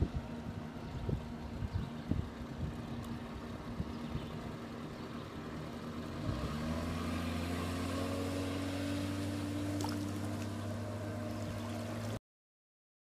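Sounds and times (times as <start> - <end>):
outboard motor running: 0.0 - 12.2.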